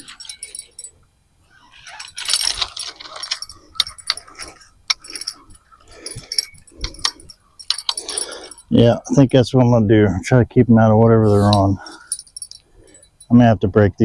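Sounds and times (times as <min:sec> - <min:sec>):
fishing gear rustling: 0:00.0 - 0:09.7, 0:11.2 - 0:13.3
metallic clicks and jingles: 0:00.0 - 0:09.7, 0:11.3 - 0:13.5.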